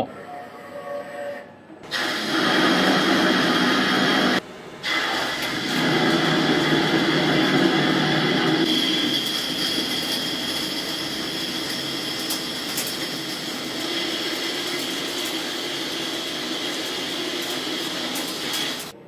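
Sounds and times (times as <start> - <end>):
lathe spindle and cutting noise: 1.9 - 4.4, 5.2 - 19.0.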